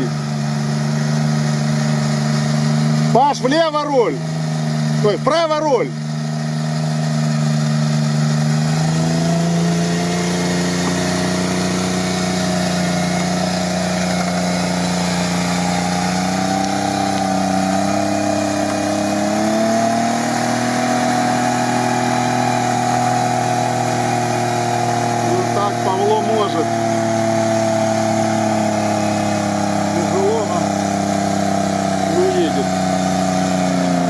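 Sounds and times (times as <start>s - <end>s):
engine running under load: 0.0s - 34.0s.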